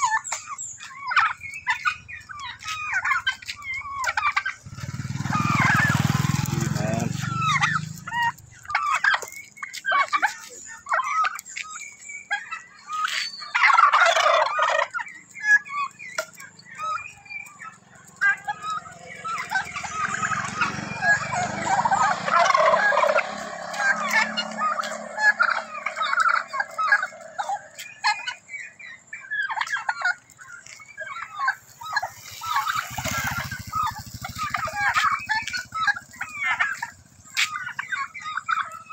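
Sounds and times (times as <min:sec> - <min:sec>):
motorcycle engine passing: 0:00.0 - 0:10.2, 0:10.9 - 0:38.9
turkey gobble: 0:00.0 - 0:38.9
turkeys warbling calls: 0:00.0 - 0:38.9.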